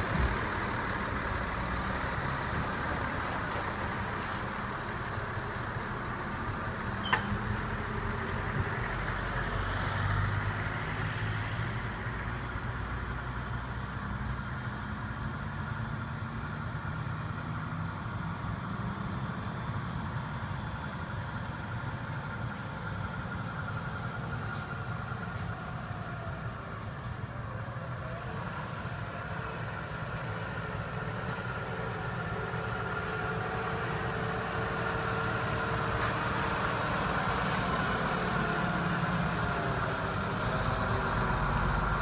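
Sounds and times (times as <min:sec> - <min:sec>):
lorry diesel engines running: 0:00.0 - 0:42.0
traffic noise: 0:00.0 - 0:42.0.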